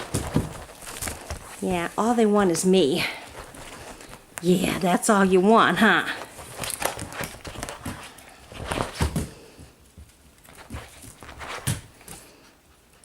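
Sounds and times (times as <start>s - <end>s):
puppies scrabbling and pawing: 0.0s - 4.6s, 5.8s - 13.0s.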